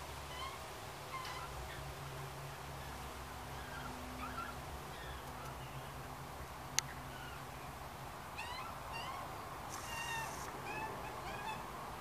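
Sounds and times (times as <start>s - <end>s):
birds chirping: 0.3s - 12.0s.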